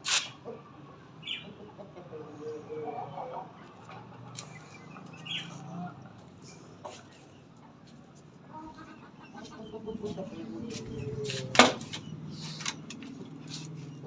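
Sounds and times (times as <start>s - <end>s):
chickens clucking: 0.2s - 14.0s.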